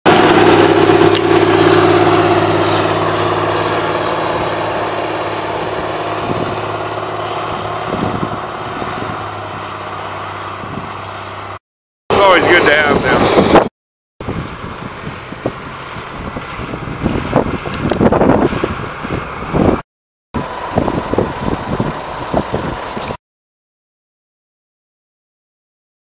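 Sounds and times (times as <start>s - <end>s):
diesel engines running: 0.0s - 19.8s, 20.4s - 23.2s.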